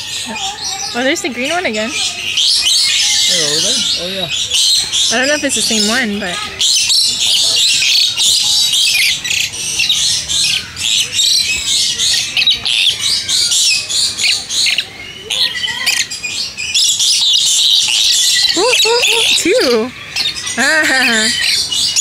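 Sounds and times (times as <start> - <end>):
parrots squawking: 0.0 - 22.0.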